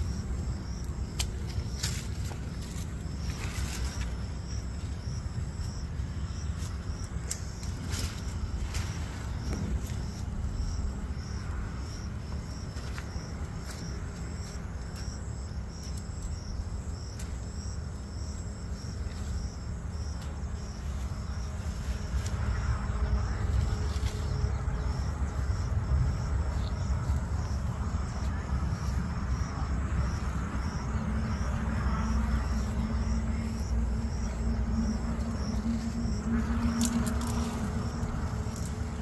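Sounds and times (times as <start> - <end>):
cricket chirping: 0.0 - 39.0
low rumble: 0.0 - 39.0.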